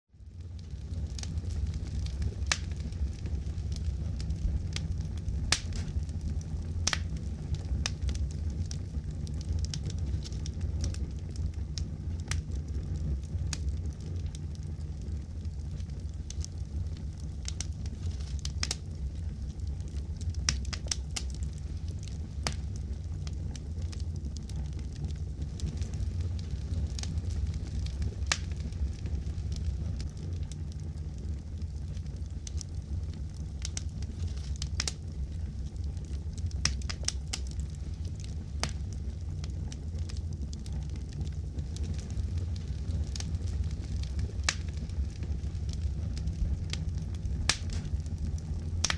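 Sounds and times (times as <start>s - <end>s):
low fire rumble: 0.1s - 48.9s
campfire crackling and popping: 0.3s - 48.9s.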